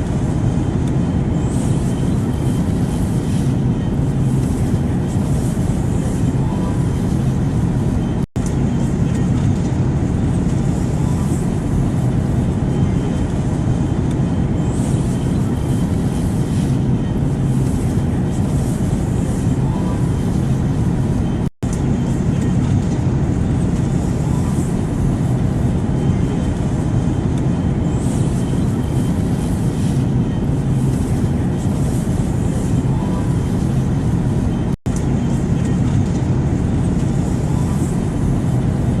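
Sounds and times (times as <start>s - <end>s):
airplane engine rumble: 0.0s - 39.0s
faint constant hum: 0.0s - 39.0s.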